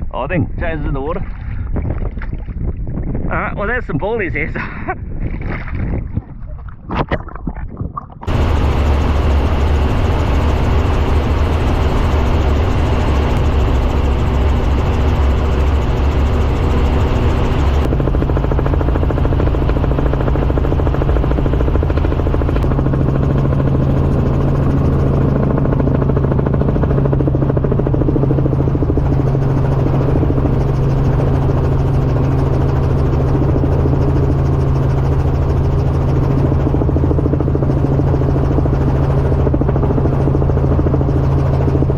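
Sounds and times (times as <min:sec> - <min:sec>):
helicopter rotor and engine drone: 0:00.0 - 0:02.0, 0:03.0 - 0:05.3, 0:08.3 - 0:41.9.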